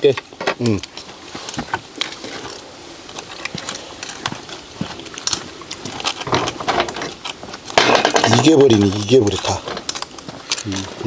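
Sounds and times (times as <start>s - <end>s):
clams crackling on a grill: 0.0s - 11.0s.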